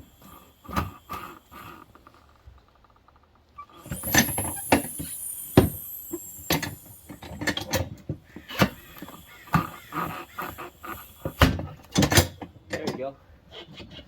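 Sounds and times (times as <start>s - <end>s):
tire changer squeaks: 0.0s - 14.0s.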